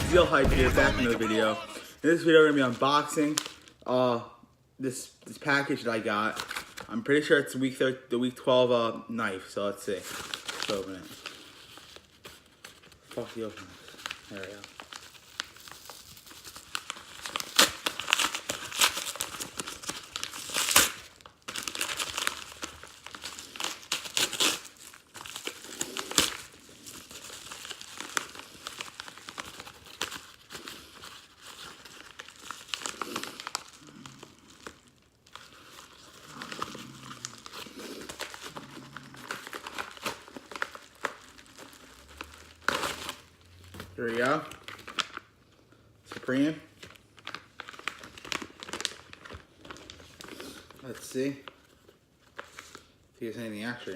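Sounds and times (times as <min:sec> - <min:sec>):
packaging crinkling and tearing: 0:00.0 - 0:03.8, 0:06.2 - 0:06.9, 0:10.0 - 0:53.1.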